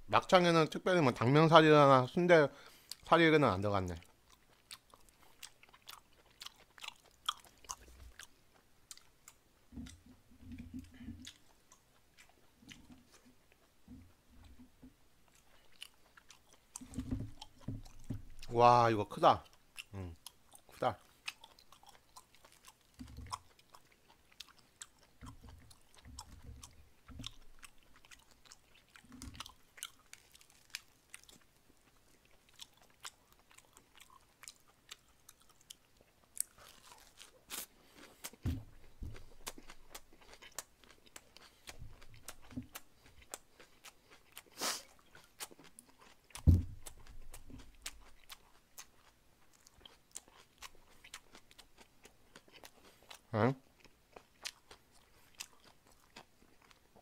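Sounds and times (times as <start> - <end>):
crunchy chewing: 3.9 - 18.6, 19.2 - 57.0.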